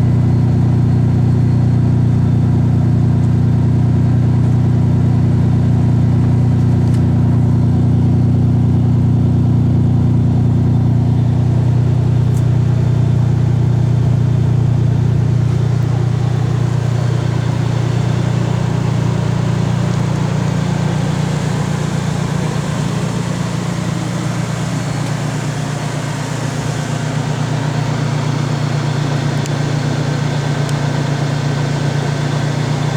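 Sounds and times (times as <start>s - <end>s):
engine exhaust running: 0.0s - 32.9s.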